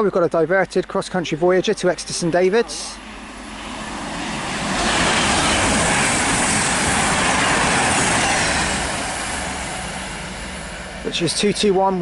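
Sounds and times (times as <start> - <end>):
train passing with rushing noise: 0.0 - 12.0.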